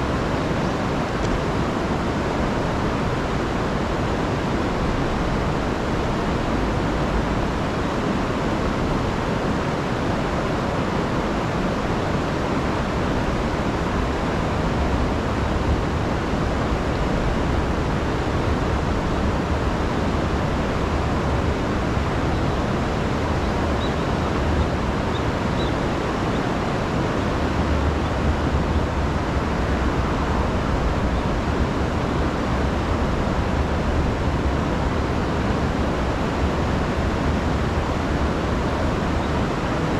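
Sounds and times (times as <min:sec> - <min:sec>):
river rushing over falls: 0:00.0 - 0:39.9.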